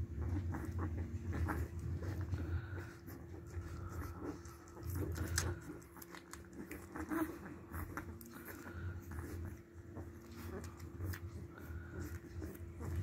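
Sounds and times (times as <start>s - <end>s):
puppies suckling wet clicks: 0.1s - 13.0s.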